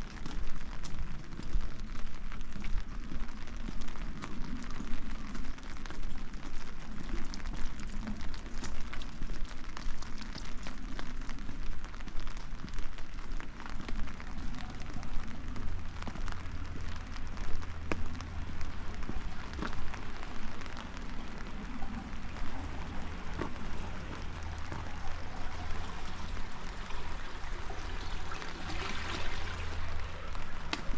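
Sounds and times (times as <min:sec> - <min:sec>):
raindrops ticking close: 0:00.0 - 0:30.9
steady rain falling: 0:00.0 - 0:30.9.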